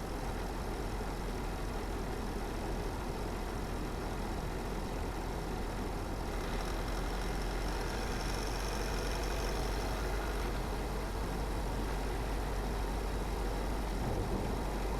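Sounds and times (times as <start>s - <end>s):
car engine and road noise: 0.0s - 14.9s.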